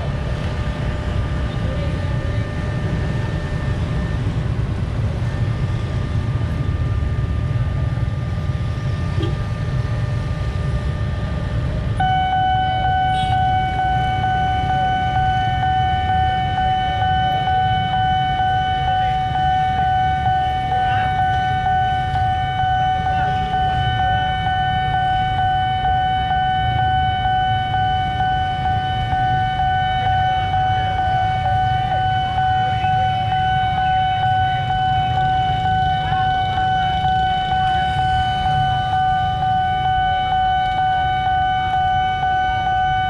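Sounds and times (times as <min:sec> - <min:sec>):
road traffic rumble: 0:00.0 - 0:43.0
steady siren-like tone: 0:00.0 - 0:43.0.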